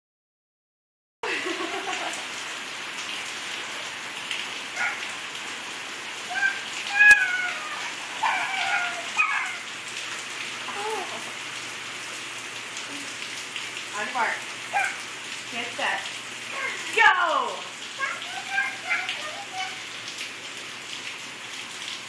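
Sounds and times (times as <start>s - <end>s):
rain on a hard surface: 1.2s - 22.0s.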